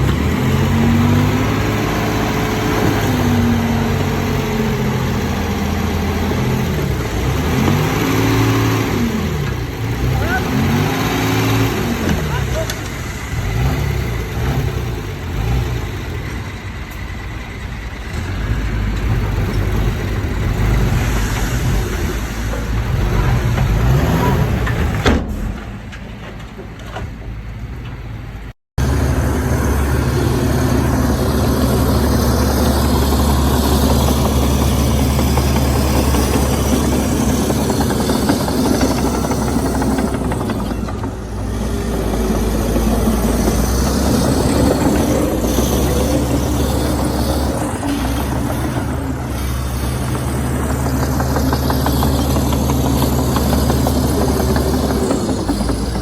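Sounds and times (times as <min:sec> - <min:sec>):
deep engine drone: 0:00.0 - 0:25.2, 0:28.8 - 0:56.0
heavy diesel engines revving: 0:00.0 - 0:56.0.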